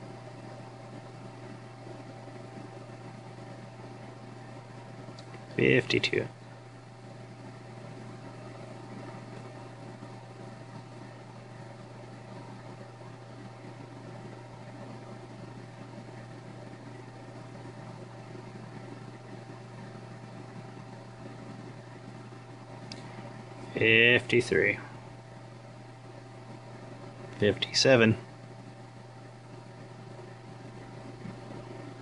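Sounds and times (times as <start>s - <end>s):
machine humming and hissing: 0.0s - 32.0s.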